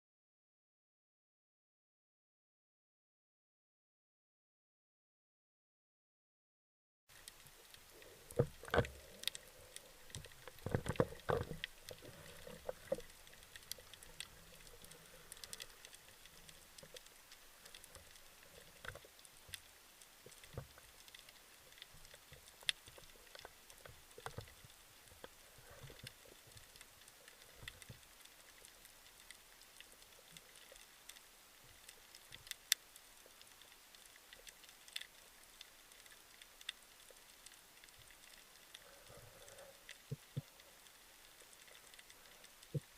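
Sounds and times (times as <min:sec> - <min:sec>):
low hiss: 0:07.1 - 0:42.9
underwater clicks and crackles: 0:07.1 - 0:42.9.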